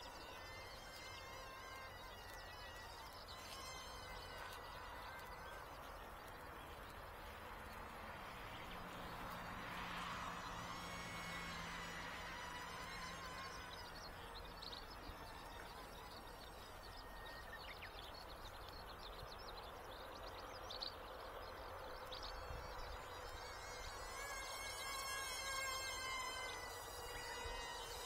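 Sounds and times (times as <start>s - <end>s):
model aircraft motors whining: 0.0s - 28.0s.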